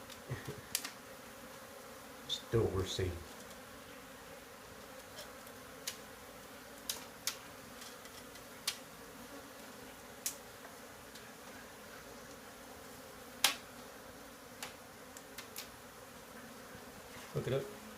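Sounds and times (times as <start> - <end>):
bees buzzing: 0.0 - 17.9.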